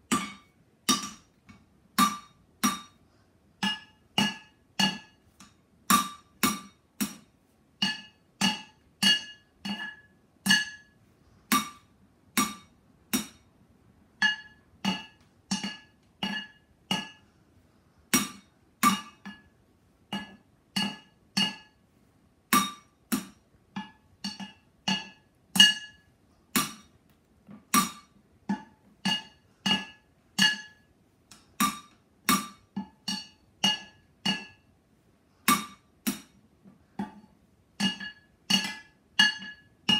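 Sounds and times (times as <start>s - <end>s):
drumsticks beating on cooking pots: 0.0s - 3.0s, 3.6s - 13.5s, 14.2s - 17.3s, 18.1s - 21.8s, 22.5s - 34.7s, 35.4s - 39.9s.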